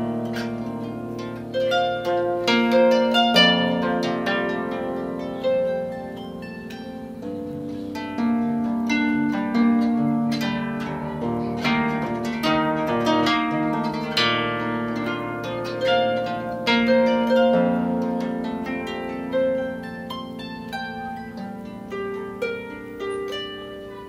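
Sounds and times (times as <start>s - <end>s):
harp playing: 0.0s - 24.0s.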